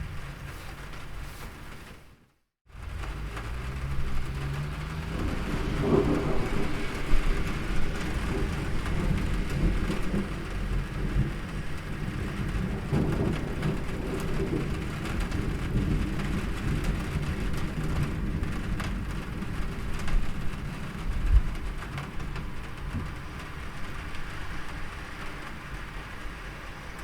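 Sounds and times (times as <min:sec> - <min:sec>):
steady rain: 0:00.0 - 0:27.0
rolling thunder: 0:02.9 - 0:26.3.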